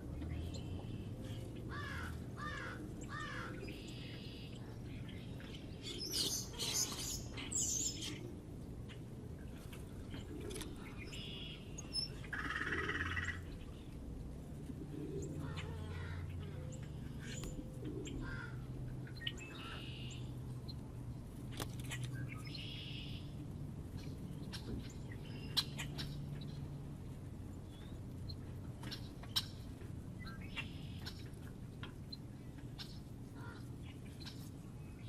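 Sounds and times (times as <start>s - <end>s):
low steady hum: 0.0s - 35.0s
small birds chirping: 0.1s - 35.0s.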